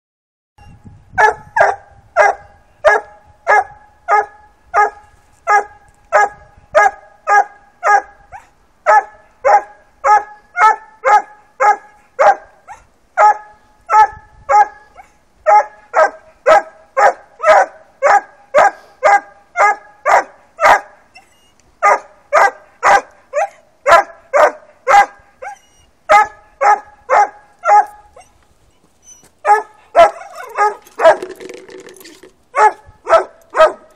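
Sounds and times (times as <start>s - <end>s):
puppy barking: 1.2s - 28.3s, 29.1s - 31.4s, 32.6s - 33.9s.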